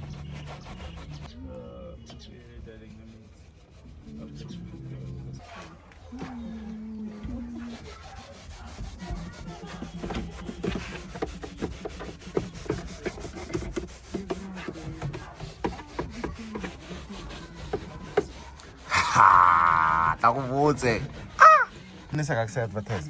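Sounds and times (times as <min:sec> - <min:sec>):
brush scrubbing car interior: 0:00.0 - 0:01.3, 0:02.2 - 0:23.0.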